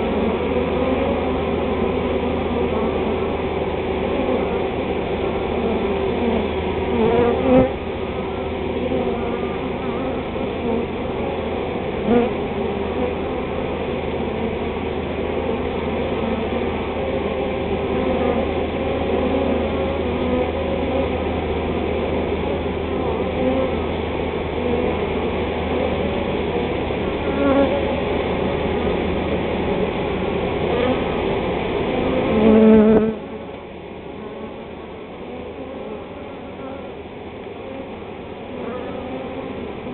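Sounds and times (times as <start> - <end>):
bee swarm buzzing: 0.0 - 39.9.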